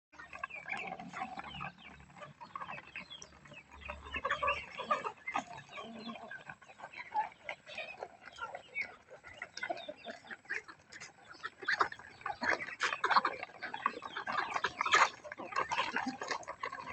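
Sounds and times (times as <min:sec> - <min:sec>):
fowl clucking and squawking: 0:00.2 - 0:16.9.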